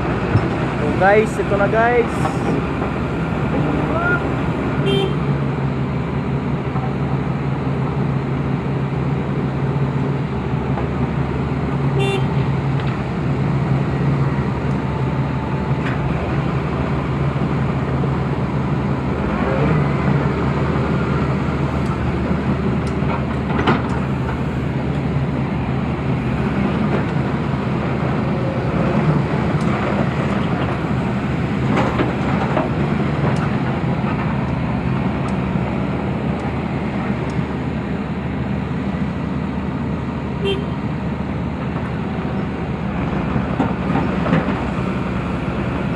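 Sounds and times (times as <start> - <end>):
heavy diesel engines droning: 0.0 - 45.9.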